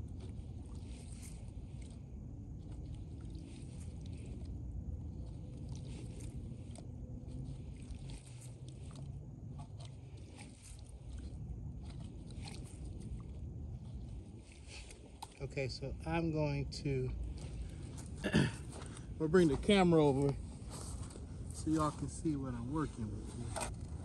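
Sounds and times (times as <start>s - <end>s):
low wind rumble on microphone: 0.0s - 24.0s.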